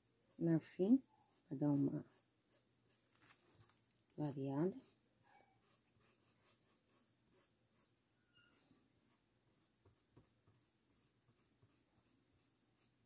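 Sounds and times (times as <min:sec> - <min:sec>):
paintbrush scratching on cloth: 0:00.2 - 0:13.0.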